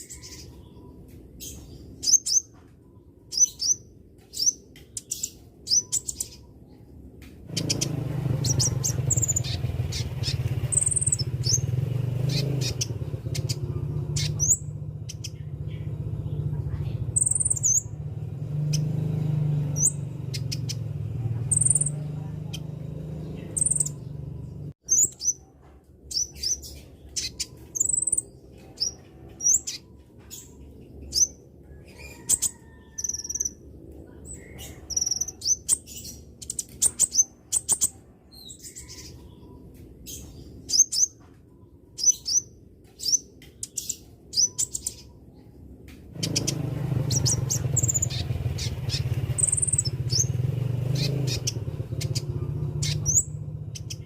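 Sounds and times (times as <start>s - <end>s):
low background hum: 0.0s - 54.0s
songbird chirps: 0.0s - 54.0s.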